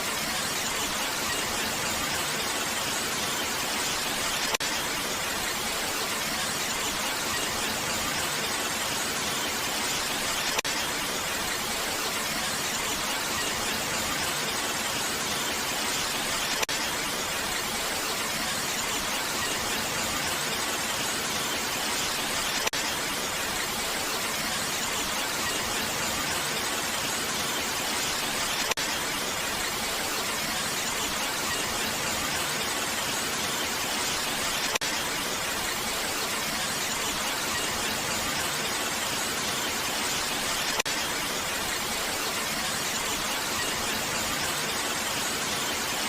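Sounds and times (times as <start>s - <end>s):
steady rain: 0.0s - 46.0s.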